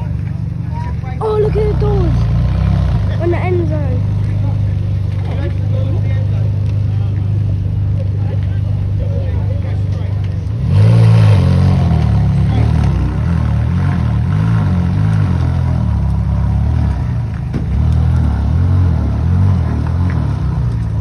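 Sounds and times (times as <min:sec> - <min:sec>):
car engine revving: 0:01.2 - 0:21.0.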